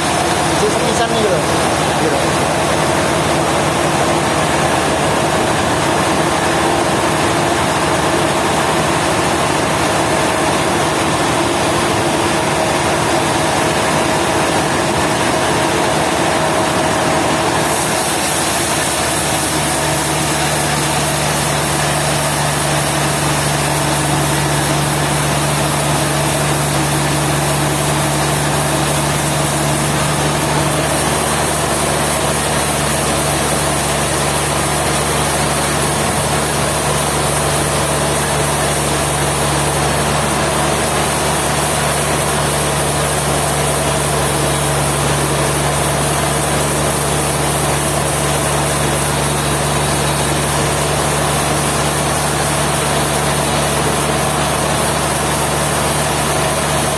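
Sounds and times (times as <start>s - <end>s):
motor-driven machine running: 0.0s - 56.9s.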